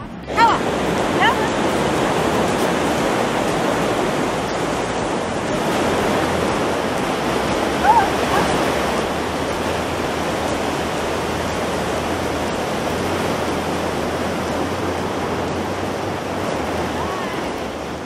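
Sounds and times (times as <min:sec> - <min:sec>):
ocean surf breaking on shore: 0:00.0 - 0:18.0.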